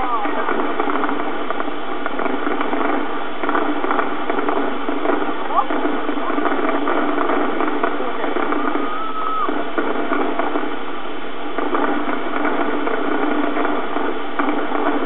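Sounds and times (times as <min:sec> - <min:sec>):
faint firework bangs: 0:00.0 - 0:15.0
fireworks crackling: 0:00.0 - 0:15.0.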